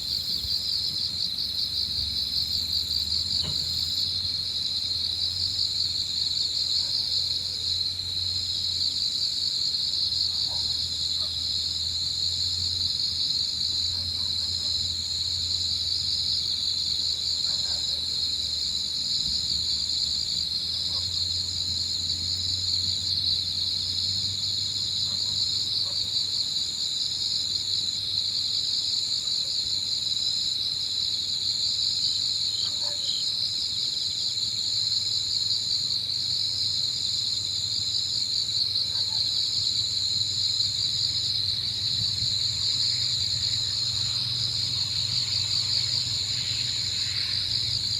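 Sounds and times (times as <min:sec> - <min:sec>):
crickets trilling: 0:00.0 - 0:47.9
higher insect chirping: 0:00.0 - 0:47.9.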